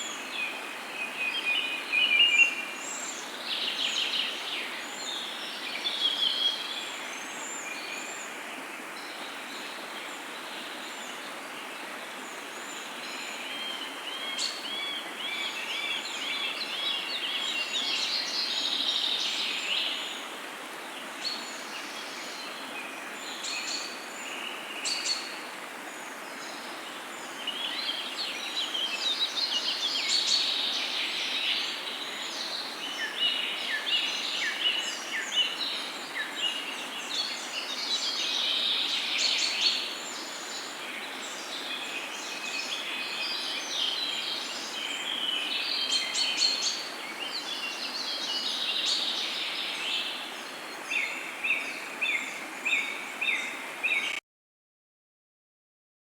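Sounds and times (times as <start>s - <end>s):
songbirds singing: 0.0s - 54.2s.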